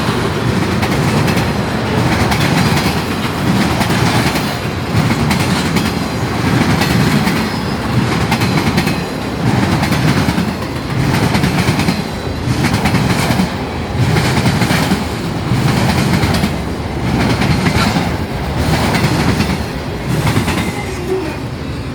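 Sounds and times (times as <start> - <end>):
train wheels clicking over rail joints: 0.0 - 21.0.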